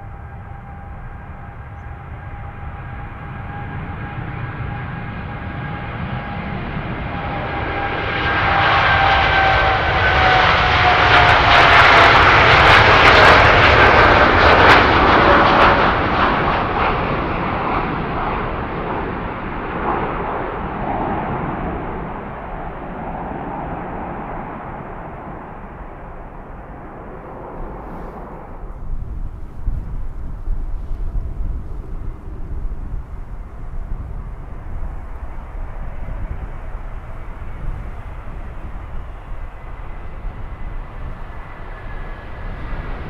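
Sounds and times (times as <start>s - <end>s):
jet airliner engine whine: 0.0s - 43.0s.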